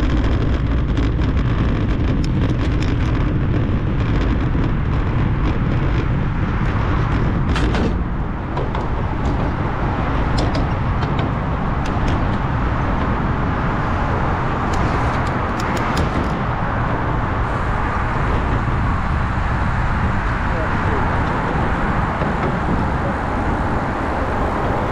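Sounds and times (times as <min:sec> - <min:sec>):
bike tyres on brick pavers: 0:00.0 - 0:24.9
tyres on wooden bridge deck: 0:00.0 - 0:24.9
wind rush from riding bike: 0:00.0 - 0:24.9.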